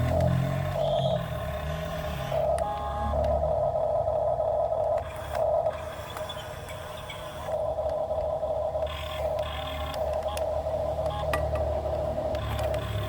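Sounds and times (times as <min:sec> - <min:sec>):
low engine rumble: 0:00.0 - 0:13.0
steady high whine: 0:00.0 - 0:13.0.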